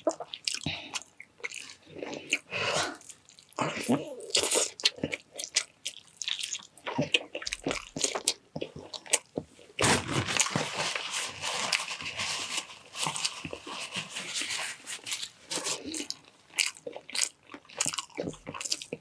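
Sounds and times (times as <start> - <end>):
person chewing and crunching: 0.0 - 19.0.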